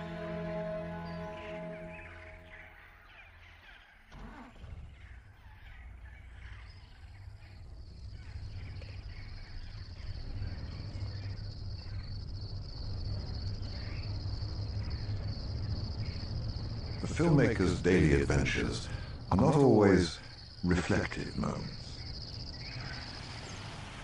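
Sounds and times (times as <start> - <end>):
crickets trilling: 0.0 - 2.6, 6.0 - 24.0
low engine rumble: 4.2 - 24.0.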